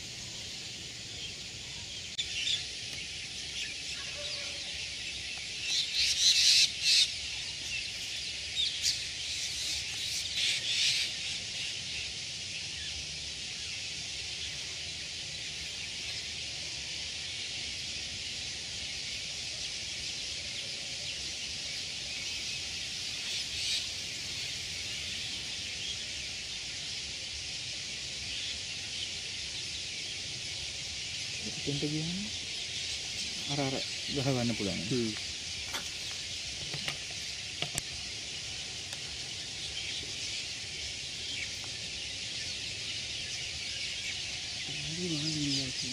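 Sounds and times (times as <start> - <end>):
birds chorus: 0.0 - 45.9.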